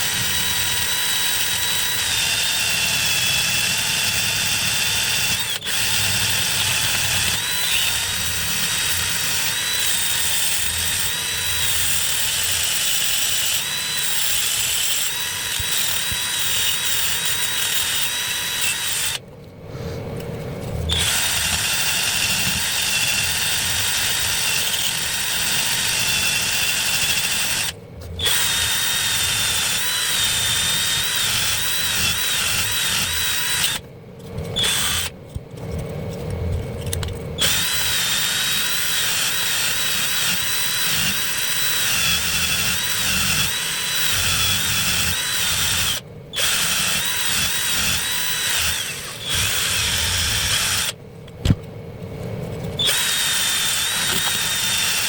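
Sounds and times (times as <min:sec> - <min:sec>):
power tool motor whining: 0:00.0 - 0:19.2, 0:20.9 - 0:33.8, 0:34.6 - 0:35.1, 0:37.4 - 0:51.0, 0:52.8 - 0:55.0.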